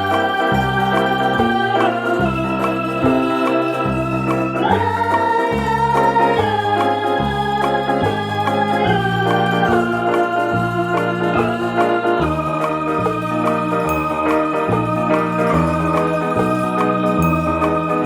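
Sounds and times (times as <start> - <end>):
electronic organ chords: 0.0 - 18.0
stepping bass line: 0.0 - 18.0.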